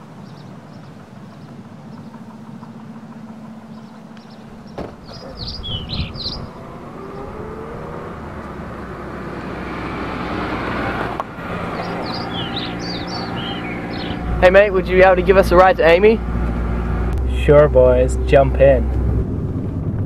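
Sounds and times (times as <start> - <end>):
birds chirping: 0.0 - 17.6
car driving up a street: 0.0 - 20.0.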